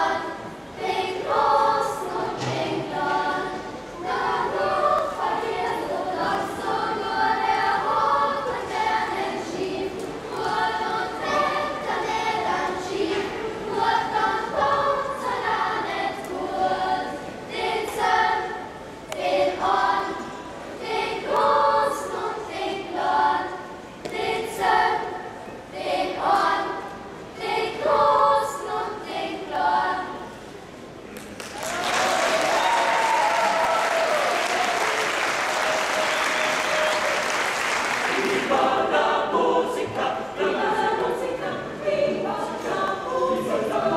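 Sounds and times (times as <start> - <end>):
choir singing: 0.0 - 30.4, 33.4 - 43.9.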